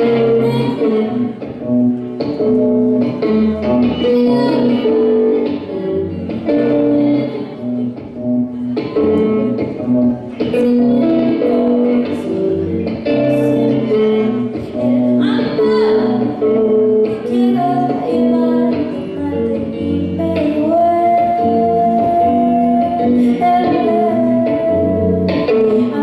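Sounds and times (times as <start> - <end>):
woman singing: 0.0 - 1.5, 3.0 - 8.0, 10.4 - 26.0
live pop band with guitar: 0.0 - 26.0.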